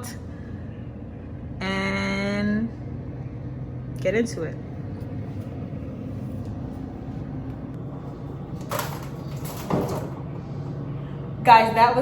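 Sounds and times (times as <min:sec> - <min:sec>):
freezer low hum: 0:00.0 - 0:12.0.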